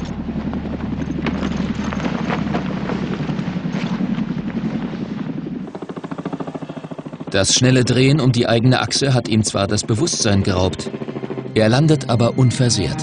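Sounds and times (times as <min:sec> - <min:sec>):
helicopter engine hum: 0:00.0 - 0:13.0
helicopter rotor chop: 0:00.0 - 0:13.0.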